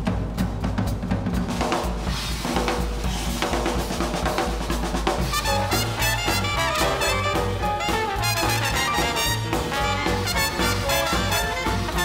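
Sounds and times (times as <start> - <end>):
jazz drum kit: 0.0 - 12.0
brass and saxophone swing ensemble: 0.2 - 12.0.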